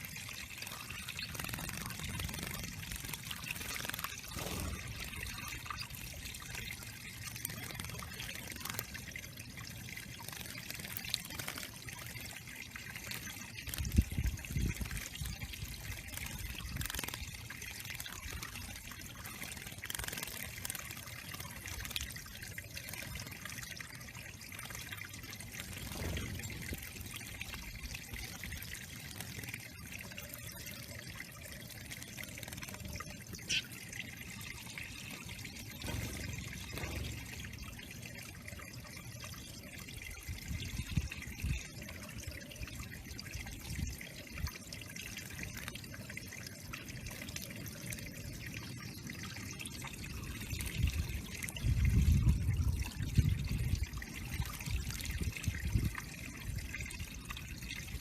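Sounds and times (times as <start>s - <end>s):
water trickling into pond: 0.0s - 58.0s.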